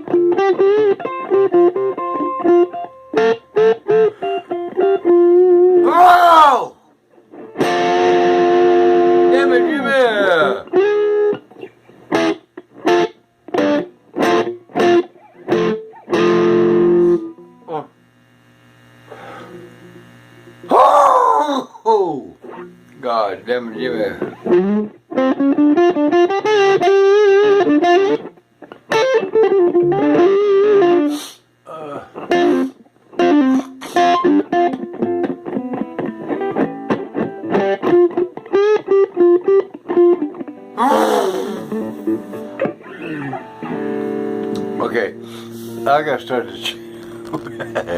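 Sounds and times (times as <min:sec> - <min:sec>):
electric guitar phrase: 0:00.0 - 0:06.8, 0:07.4 - 0:11.4, 0:12.1 - 0:17.9, 0:23.4 - 0:28.3, 0:28.9 - 0:31.1, 0:32.2 - 0:47.9.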